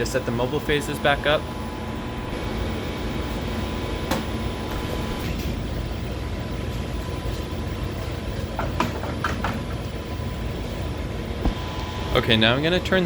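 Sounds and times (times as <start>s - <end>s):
lab equipment humming: 0.0s - 13.0s.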